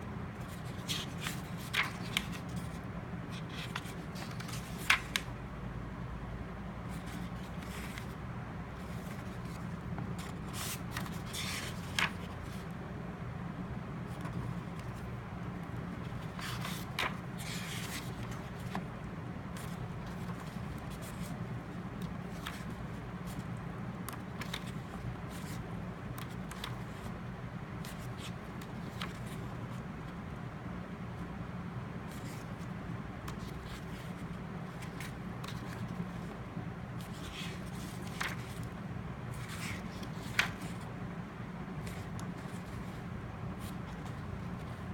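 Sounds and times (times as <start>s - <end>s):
paper rustling: 0.4s - 5.3s, 6.9s - 8.2s, 8.8s - 12.7s, 14.1s - 30.2s, 32.0s - 40.9s, 41.7s - 44.9s.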